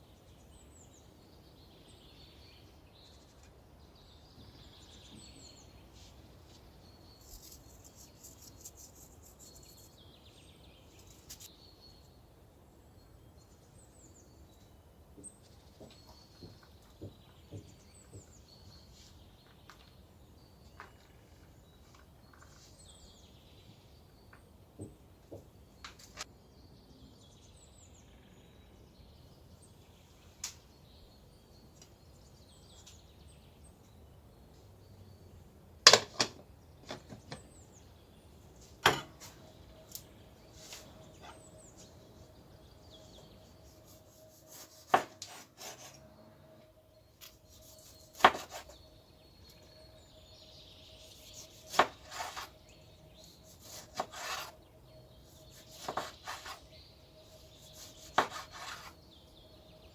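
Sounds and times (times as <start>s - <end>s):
birds chirping faintly: 0.0s - 59.9s.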